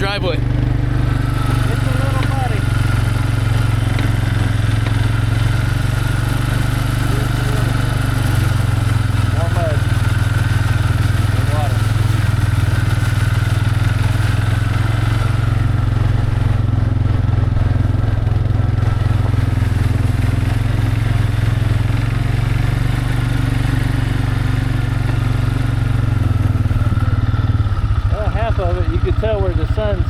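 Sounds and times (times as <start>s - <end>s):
vehicle engine low drone: 0.0s - 30.0s.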